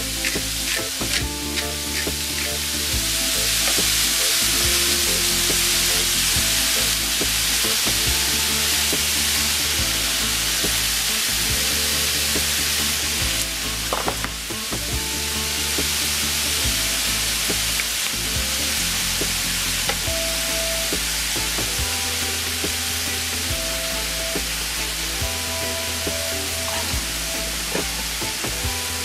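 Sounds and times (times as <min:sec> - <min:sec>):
steak sizzling in a skillet: 0:00.0 - 0:29.0.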